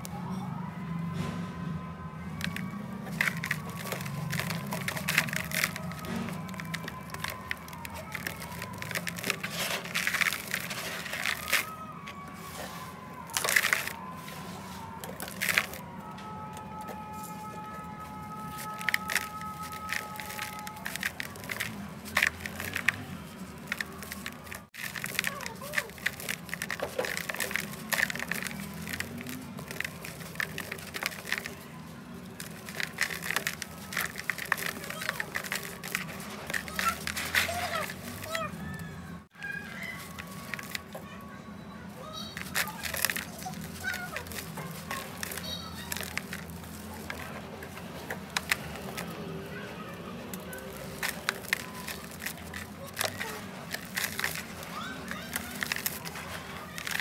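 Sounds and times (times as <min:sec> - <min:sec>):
dirt crackling and crunching: 0:02.2 - 0:41.1, 0:42.0 - 0:57.0
crumbs falling into metal bowl: 0:02.4 - 0:15.8, 0:18.3 - 0:38.4, 0:42.2 - 0:49.6, 0:50.2 - 0:57.0.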